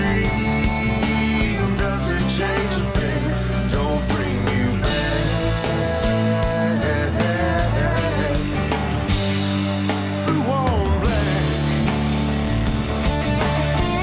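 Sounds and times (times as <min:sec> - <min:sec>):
bass guitar: 0:00.0 - 0:14.0
electric guitar: 0:00.0 - 0:14.0
steady drum beat: 0:00.0 - 0:14.0.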